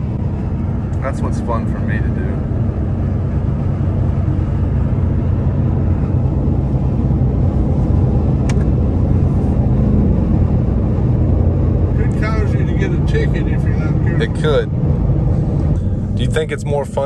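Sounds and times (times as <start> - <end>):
car engine droning: 0.0 - 17.0
tyre and road rumble: 0.0 - 17.0.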